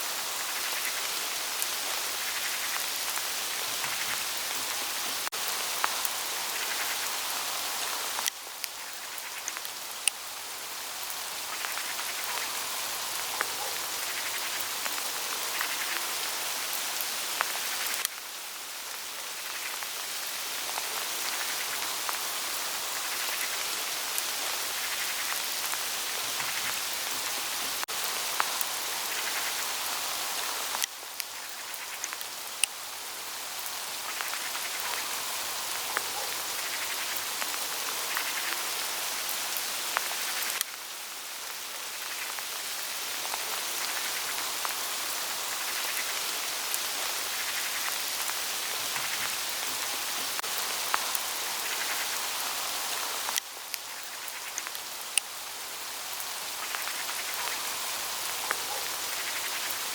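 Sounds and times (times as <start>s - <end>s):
hail ticking on leaves: 0.0s - 59.9s.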